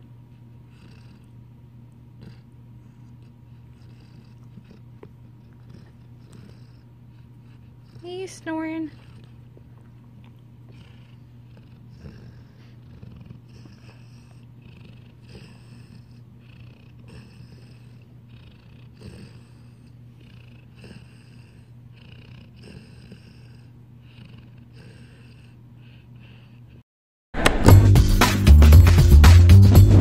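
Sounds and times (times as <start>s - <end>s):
puppy snoring: 0.0s - 26.8s
steady low hum: 0.0s - 26.8s.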